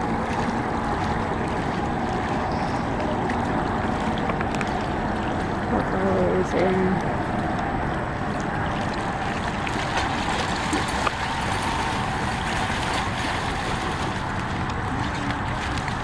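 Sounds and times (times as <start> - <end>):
open water rushing: 0.0 - 16.0
wind: 0.0 - 16.0.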